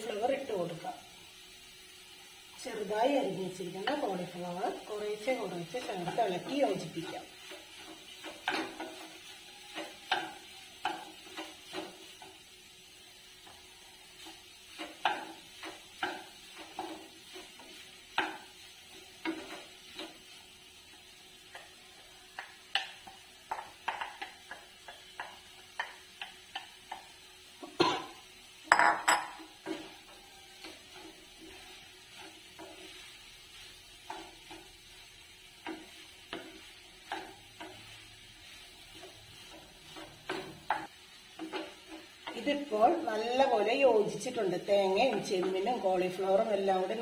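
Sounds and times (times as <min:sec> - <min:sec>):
spatula scraping in a pan: 0:02.8 - 0:47.0.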